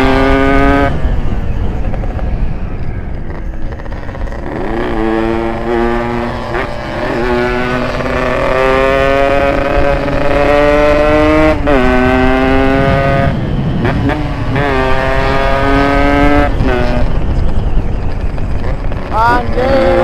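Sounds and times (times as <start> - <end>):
two-stroke engine accelerating: 0.0 - 20.0.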